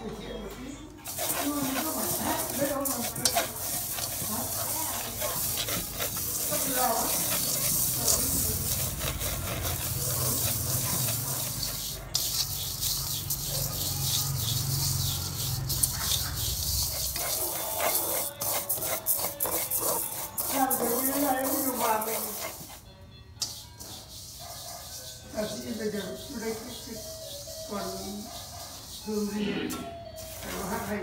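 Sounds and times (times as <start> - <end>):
grains scraping in metal wok: 1.0 - 22.8, 23.4 - 29.5, 30.2 - 31.0.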